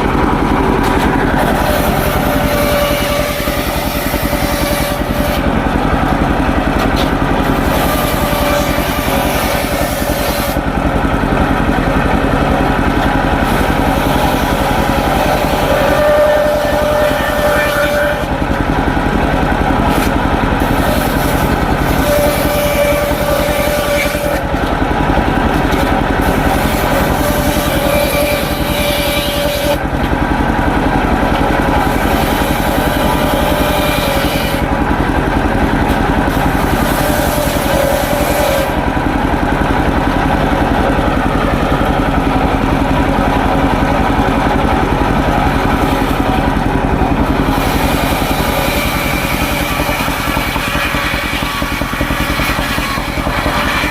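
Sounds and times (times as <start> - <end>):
engine-driven circular saw running: 0.0 - 53.9
saw blade cutting wood: 0.0 - 53.9.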